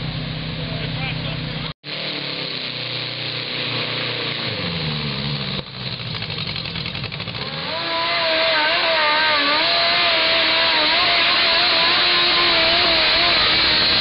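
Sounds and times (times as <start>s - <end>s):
second tractor engine high revs: 0.0s - 14.0s
tractor engine at full throttle: 0.0s - 14.0s.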